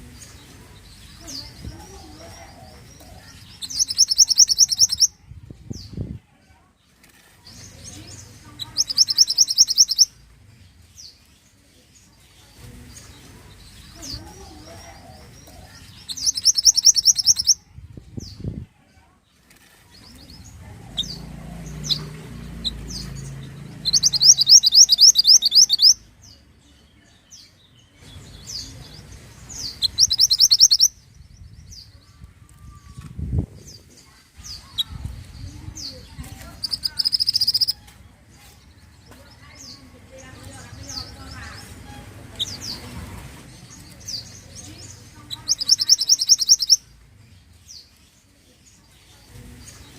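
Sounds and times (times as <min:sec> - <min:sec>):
songbird chirping and trilling: 0:00.0 - 0:49.9.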